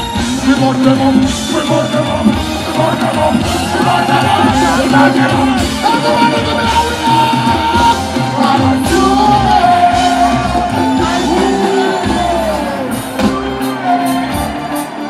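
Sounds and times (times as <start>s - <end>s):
live reggae band: 0.0s - 15.0s
man singing and chanting: 0.1s - 14.9s.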